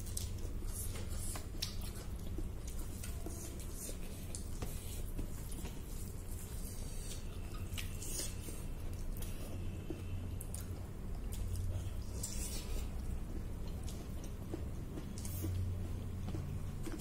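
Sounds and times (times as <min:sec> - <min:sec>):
steady low hum: 0:00.0 - 0:17.0
wet smacks and chewing: 0:00.0 - 0:17.0.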